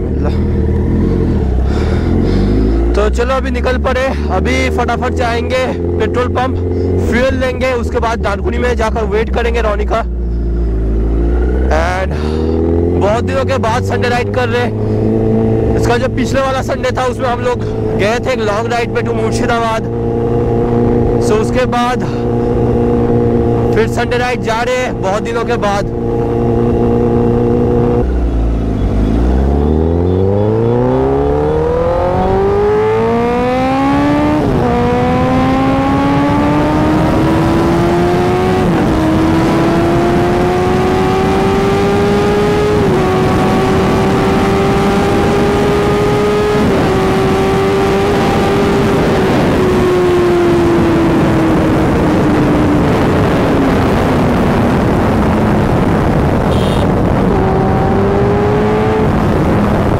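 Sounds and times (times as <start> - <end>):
motorcycle engine accelerating: 0.0 - 59.9
rushing wind: 0.0 - 59.9.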